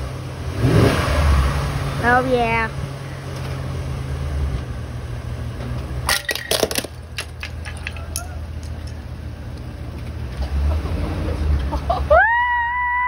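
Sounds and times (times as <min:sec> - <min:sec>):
truck engine running low: 0:00.0 - 0:12.9.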